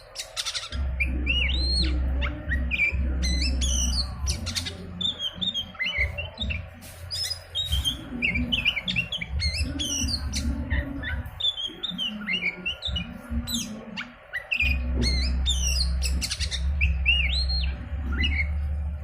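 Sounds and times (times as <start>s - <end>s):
low steady hum: 0.7s - 19.0s.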